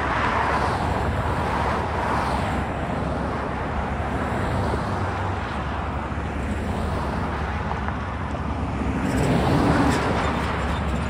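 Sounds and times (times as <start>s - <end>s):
cars driving past: 0.0s - 11.0s.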